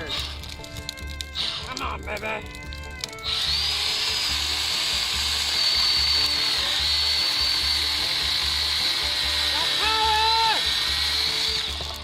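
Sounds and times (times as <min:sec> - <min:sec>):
mini chainsaw whining cutting wood: 0:00.0 - 0:01.8, 0:02.5 - 0:12.0.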